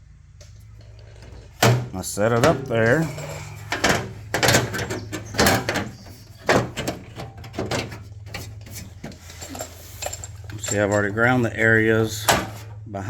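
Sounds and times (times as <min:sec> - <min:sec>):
steady low hum: 0:00.0 - 0:13.0
sheet metal knocks and clatter: 0:01.0 - 0:12.8.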